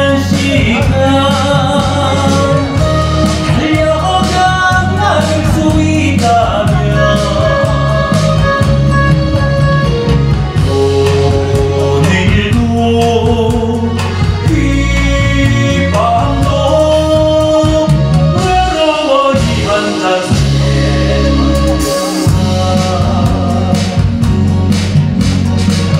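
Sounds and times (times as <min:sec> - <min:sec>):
amplified band: 0:00.0 - 0:25.9
man singing: 0:00.0 - 0:25.9.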